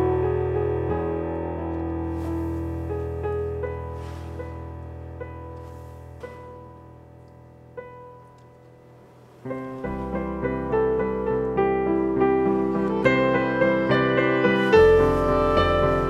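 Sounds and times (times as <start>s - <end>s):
digital piano playing: 0.0s - 16.0s.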